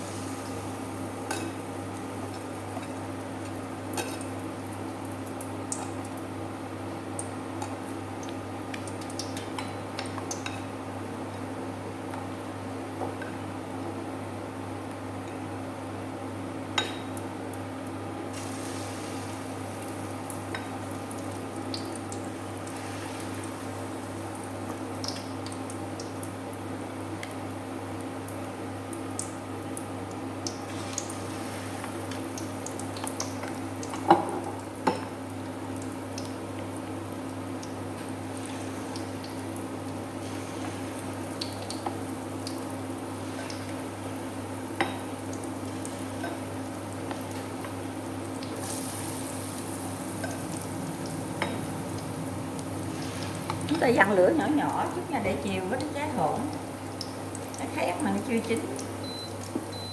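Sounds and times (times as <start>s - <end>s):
vegetables deep-frying in oil: 0.0s - 59.9s.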